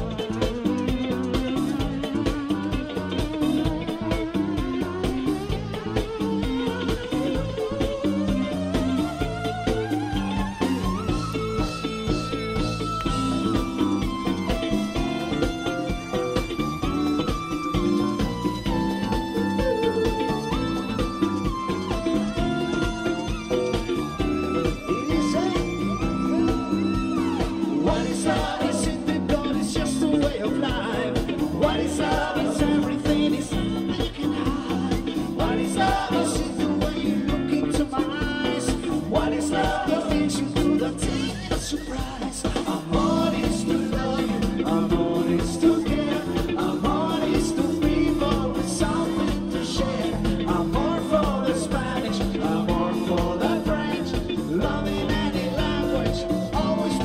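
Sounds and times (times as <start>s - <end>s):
person singing: 0.0s - 11.7s, 13.1s - 57.0s
live band playing dance music: 0.0s - 57.0s
steady drumbeat: 0.0s - 57.0s.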